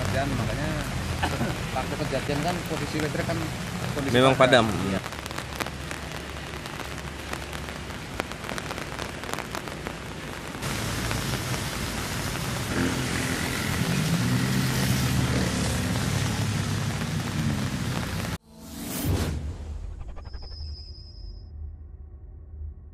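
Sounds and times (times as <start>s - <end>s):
steady rain falling: 0.0s - 18.4s.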